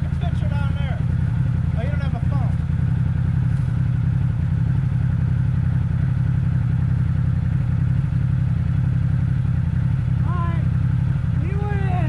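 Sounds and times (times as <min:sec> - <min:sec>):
utility vehicle engine idling: 0:00.0 - 0:12.0.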